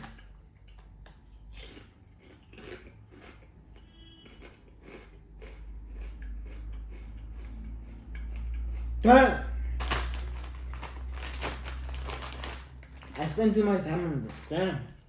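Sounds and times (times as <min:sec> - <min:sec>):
person chewing crunchy snack: 0:00.0 - 0:13.3.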